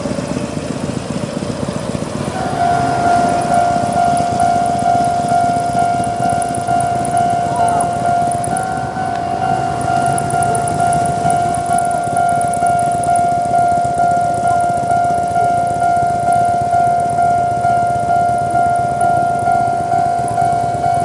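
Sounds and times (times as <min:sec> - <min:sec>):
vehicle low rumble: 0:00.0 - 0:21.0
level crossing alarm chime: 0:02.2 - 0:21.0.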